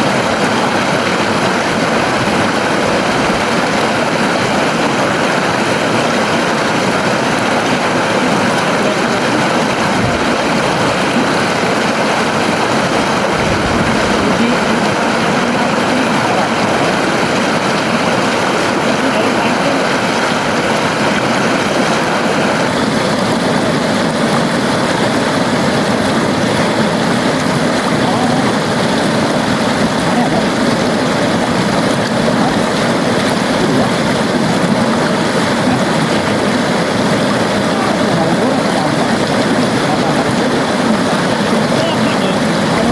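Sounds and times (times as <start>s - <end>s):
river flowing: 0.0s - 42.9s.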